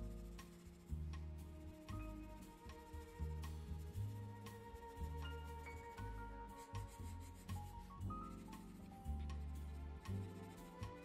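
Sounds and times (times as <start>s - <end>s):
low bass line: 0.0s - 11.0s.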